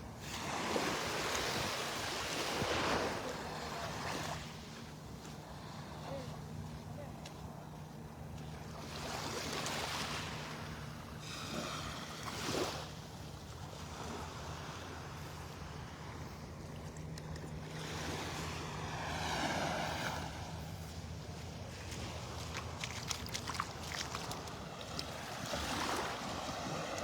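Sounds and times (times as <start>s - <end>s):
waves washing onto beach: 0.0s - 27.0s.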